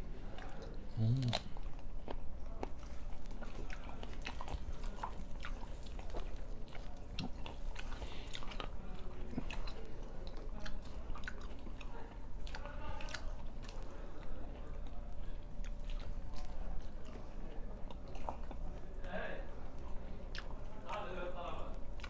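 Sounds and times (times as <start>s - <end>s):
man chewing food: 0.0s - 22.0s.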